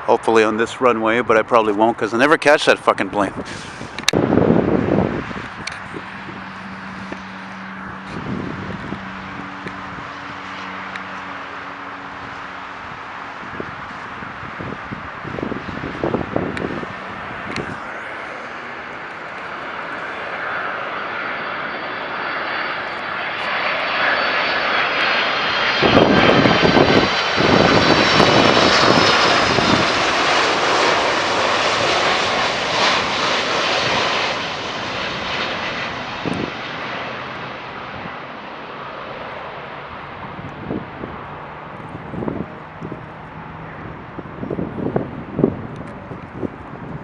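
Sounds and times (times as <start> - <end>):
airliner engine whine: 0.0 - 47.0.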